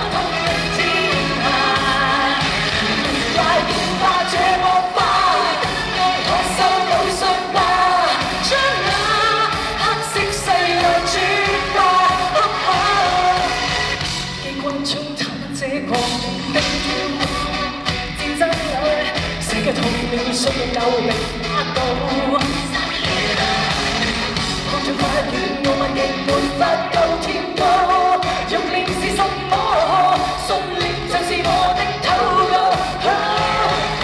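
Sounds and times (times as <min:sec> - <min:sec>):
band playing: 0:00.0 - 0:14.9, 0:16.0 - 0:34.0
woman singing: 0:00.0 - 0:34.0.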